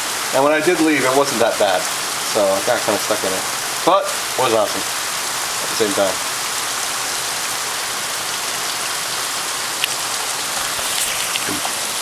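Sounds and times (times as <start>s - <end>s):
heavy rain falling: 0.0s - 12.0s
sharp water drips: 0.0s - 12.0s.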